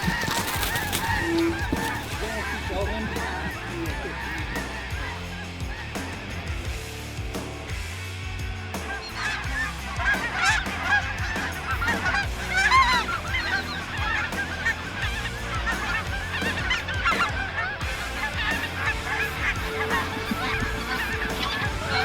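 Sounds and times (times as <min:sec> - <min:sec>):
geese honking: 0:00.0 - 0:07.1, 0:08.7 - 0:22.0.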